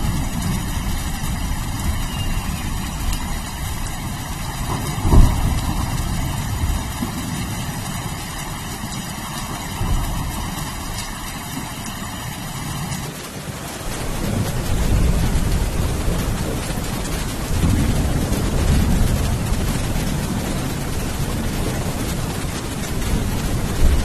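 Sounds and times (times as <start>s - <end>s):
rolling thunder: 0.0s - 13.0s, 13.8s - 24.0s
thunderclap: 0.0s - 13.1s, 13.8s - 24.0s
steady rain: 0.0s - 24.0s.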